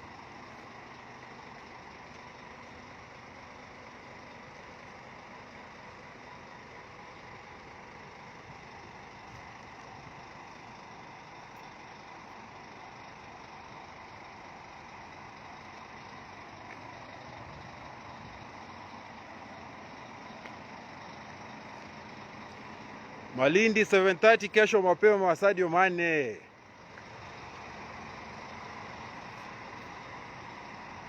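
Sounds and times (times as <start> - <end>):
faint vehicle engine idling: 0.0 - 31.0.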